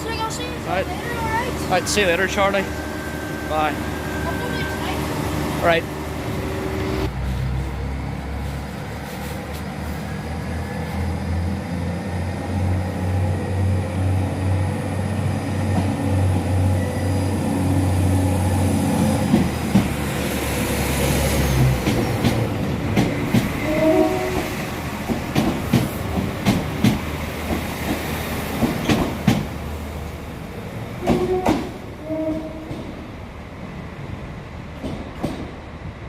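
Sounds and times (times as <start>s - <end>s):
train diesel engine humming: 0.0s - 36.0s.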